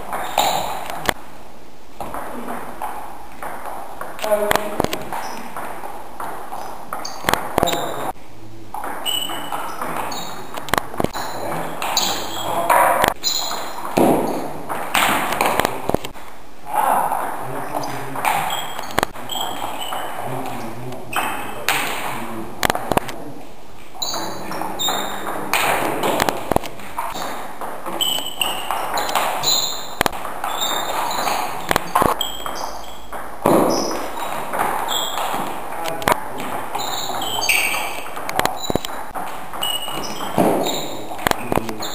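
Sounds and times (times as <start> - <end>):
shoe squeaks: 0.0 - 1.2, 3.4 - 8.2, 8.8 - 16.0, 16.7 - 21.6, 24.0 - 41.9.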